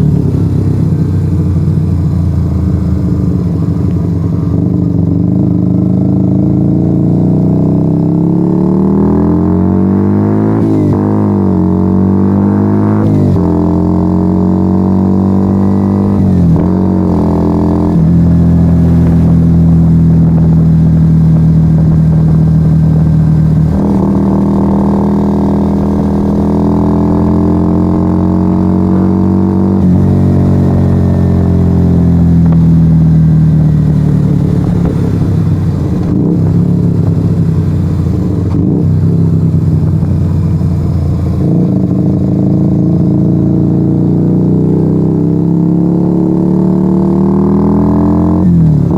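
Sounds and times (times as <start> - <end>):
loud motorcycle engine riding: 0.0 - 48.9.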